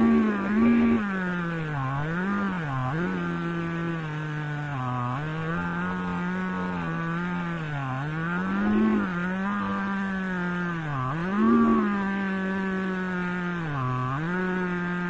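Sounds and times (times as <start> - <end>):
chainsaw cutting through log: 0.0 - 15.0.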